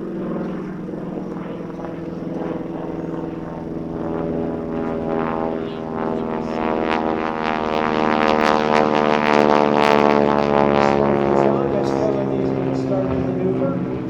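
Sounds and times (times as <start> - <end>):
propeller plane engine in flight: 0.0 - 14.0.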